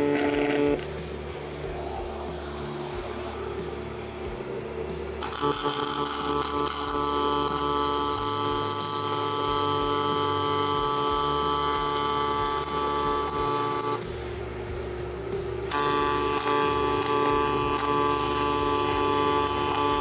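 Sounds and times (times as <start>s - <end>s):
welding arc buzzing: 0.0s - 2.7s, 3.5s - 20.0s.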